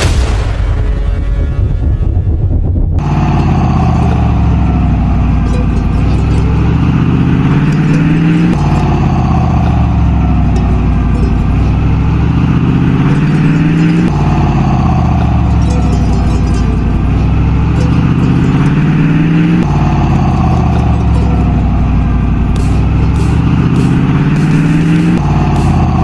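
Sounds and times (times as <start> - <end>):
vehicle engine pulling under load: 3.0 - 26.0.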